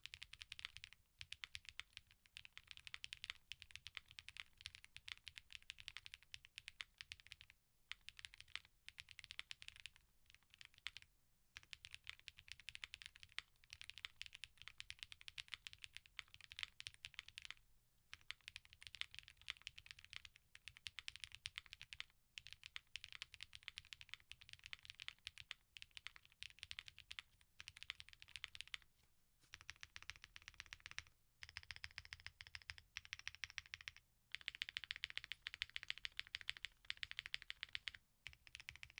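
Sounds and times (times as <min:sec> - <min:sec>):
mechanical keyboard typing: 0:00.0 - 0:11.0, 0:11.6 - 0:28.8, 0:29.5 - 0:38.9.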